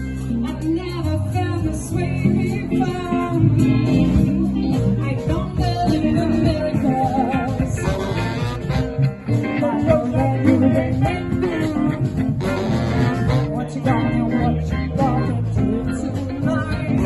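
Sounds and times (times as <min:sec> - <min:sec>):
guitar: 0:00.0 - 0:17.0
live band playing: 0:00.0 - 0:17.0.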